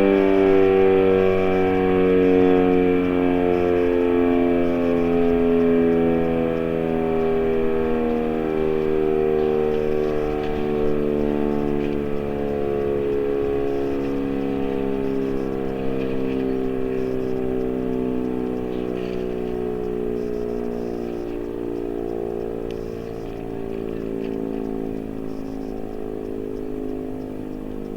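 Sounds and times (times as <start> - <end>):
warning siren winding down: 0.0 - 27.9.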